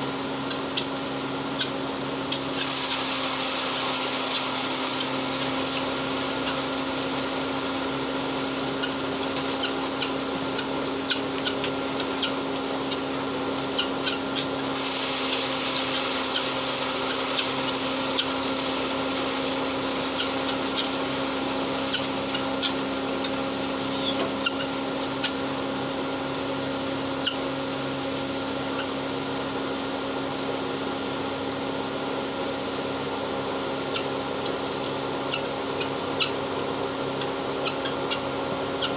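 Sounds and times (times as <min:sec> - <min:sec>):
grain mill grinding: 0:00.0 - 0:38.9.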